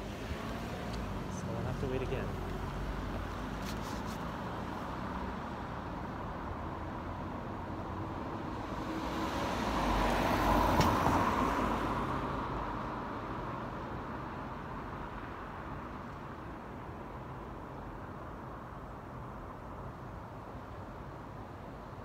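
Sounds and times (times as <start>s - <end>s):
street noise: 0.0s - 22.0s.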